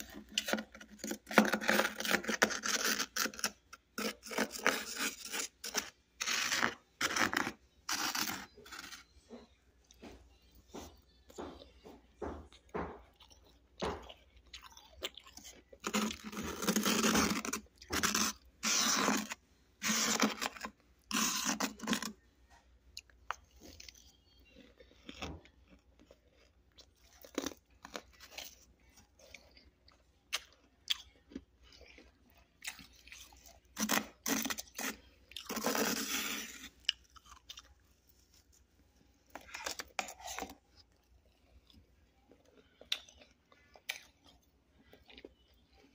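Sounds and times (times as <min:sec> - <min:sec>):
crunching and chewing frost: 0:00.0 - 0:45.9.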